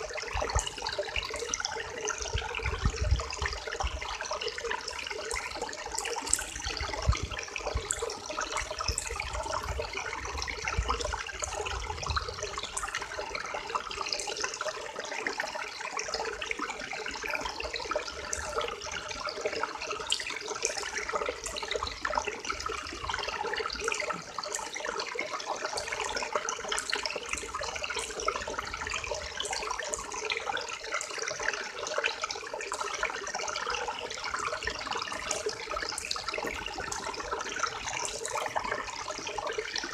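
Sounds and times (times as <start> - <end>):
river water flowing and babbling: 0.0 - 39.9.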